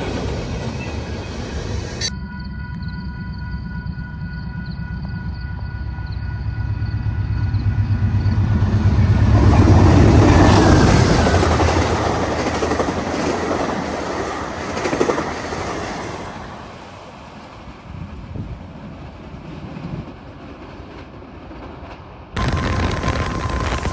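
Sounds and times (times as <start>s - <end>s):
diesel locomotive engine rumble: 0.0s - 20.6s, 22.4s - 23.9s.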